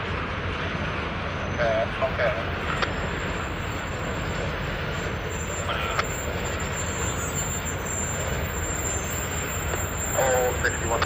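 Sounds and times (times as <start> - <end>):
diesel locomotives rumbling: 0.0 - 11.0.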